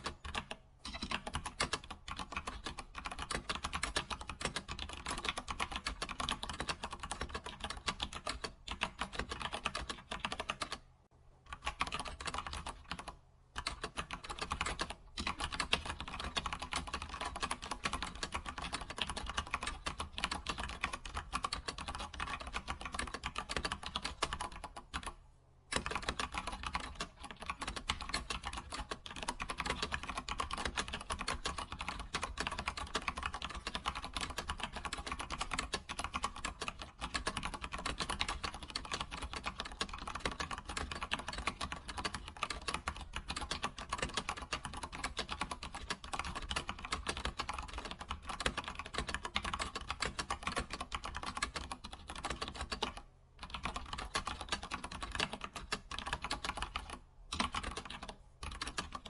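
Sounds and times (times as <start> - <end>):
computer keyboard typing: 0.0 - 10.9, 11.5 - 59.0.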